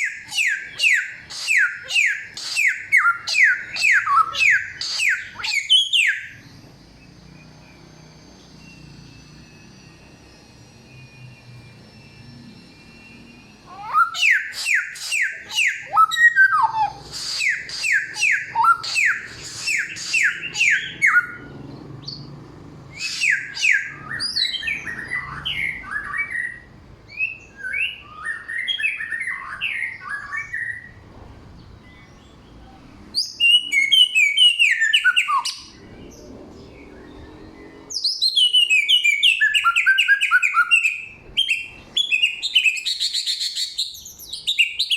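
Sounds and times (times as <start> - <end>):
songbird singing whistled notes: 0.0 - 31.0, 31.6 - 44.9.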